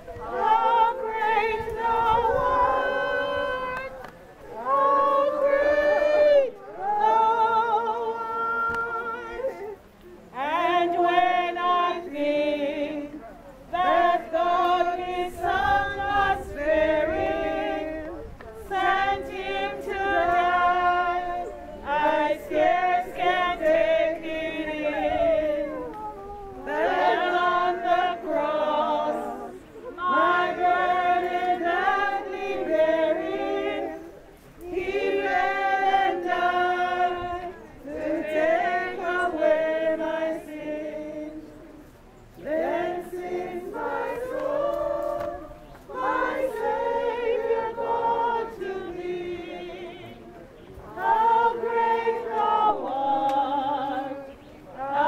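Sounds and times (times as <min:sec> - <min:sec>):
group singing a hymn: 0:00.0 - 0:55.0.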